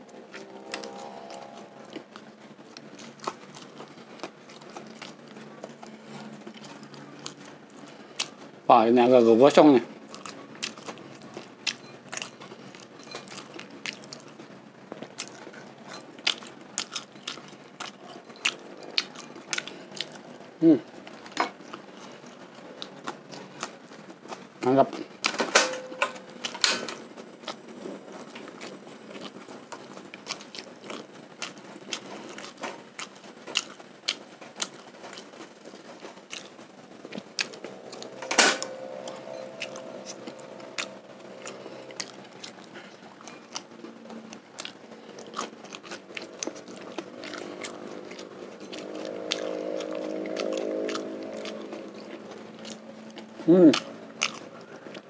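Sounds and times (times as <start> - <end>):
close chewing with mouth clicks: 0.1 - 8.6, 10.0 - 25.3, 26.3 - 38.2, 38.8 - 55.0.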